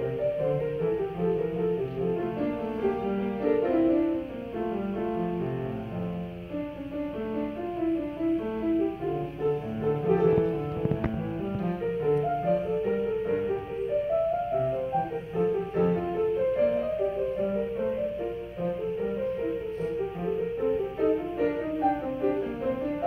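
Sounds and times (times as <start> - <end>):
solo grand piano piece: 0.0 - 23.0.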